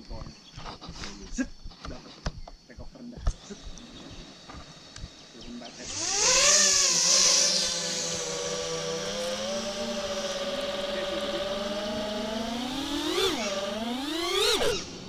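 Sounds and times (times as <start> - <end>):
quadcopter motors whining: 0.6 - 15.0.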